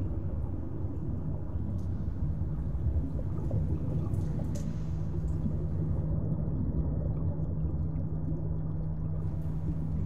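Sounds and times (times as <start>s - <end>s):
muffled watery churn: 0.0s - 10.0s.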